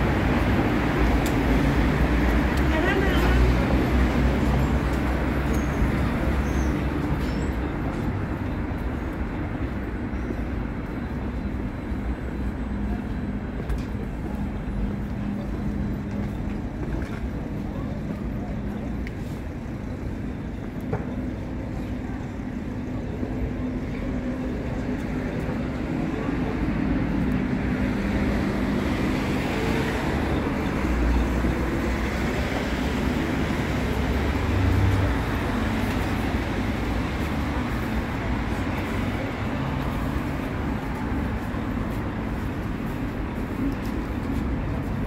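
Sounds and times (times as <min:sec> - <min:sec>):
city traffic rumble: 0:00.0 - 0:45.0
tram humming: 0:00.0 - 0:45.0.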